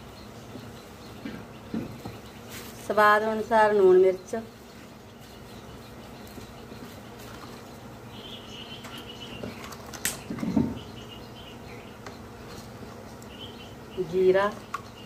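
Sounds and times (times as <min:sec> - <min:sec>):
faint high chirping: 0:00.0 - 0:15.0.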